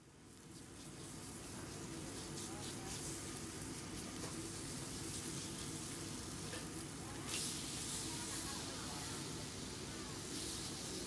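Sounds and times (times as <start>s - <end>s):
meat sizzling on griddle: 0.0s - 11.0s.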